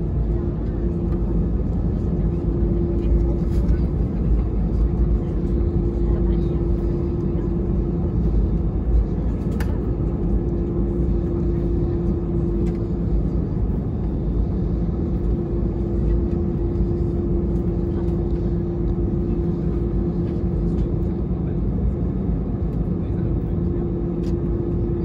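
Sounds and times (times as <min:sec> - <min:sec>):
airplane cabin low rumble: 0:00.0 - 0:25.0
droning hum: 0:00.0 - 0:25.0.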